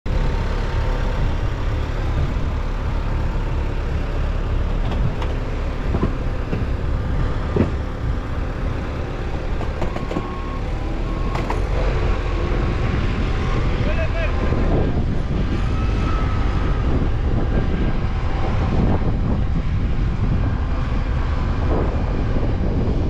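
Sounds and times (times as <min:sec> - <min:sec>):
engine idling: 0:00.1 - 0:21.2.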